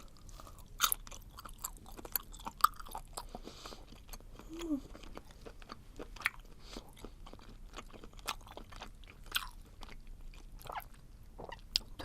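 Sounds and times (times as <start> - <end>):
close chewing: 0.0 - 11.9.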